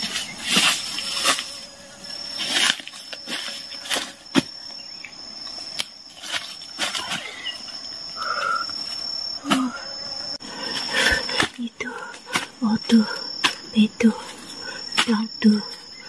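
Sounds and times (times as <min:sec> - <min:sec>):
insects trilling: 0:00.0 - 0:16.0
undergrowth rustling: 0:00.0 - 0:16.0.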